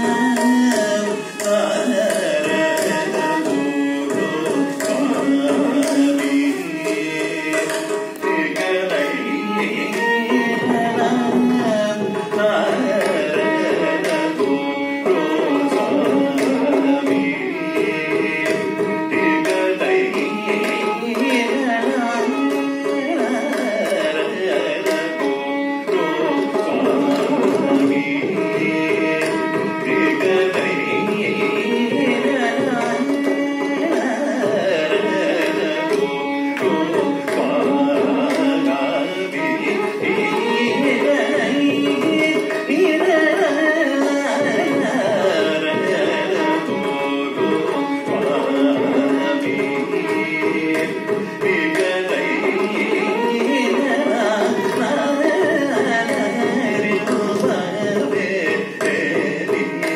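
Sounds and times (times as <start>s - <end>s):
man singing: 0.0s - 59.9s.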